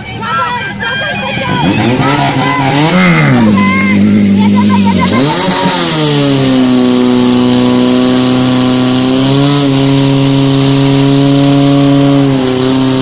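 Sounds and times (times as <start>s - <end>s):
fire pump engine running: 0.0s - 13.0s.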